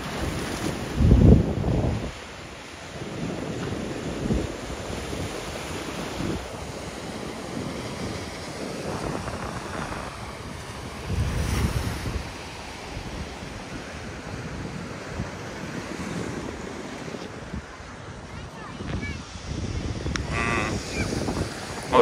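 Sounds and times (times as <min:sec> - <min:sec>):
sea waves washing ashore: 0:00.0 - 0:22.0
wind buffeting microphone: 0:00.0 - 0:22.0.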